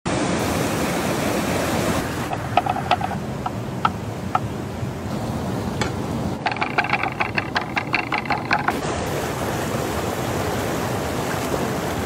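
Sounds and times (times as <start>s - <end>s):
rushing river rapids: 0.1s - 12.0s.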